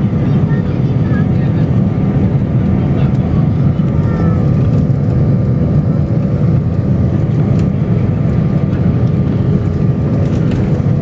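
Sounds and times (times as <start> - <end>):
faint engine whine: 0.0 - 11.0
jet engines rumbling in cabin: 0.0 - 11.0.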